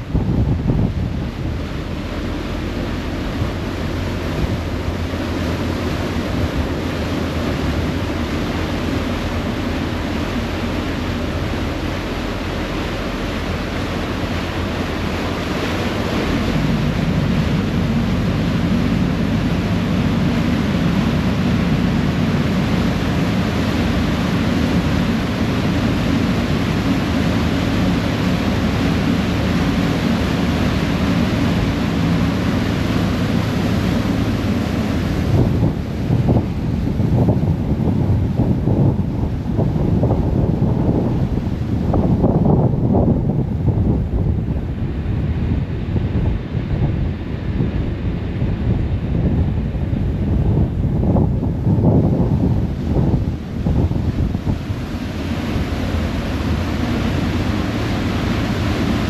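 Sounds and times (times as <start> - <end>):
ferry engine droning: 0.0 - 59.0
propeller wake churning: 0.0 - 59.0
wind buffeting microphone: 0.0 - 59.0.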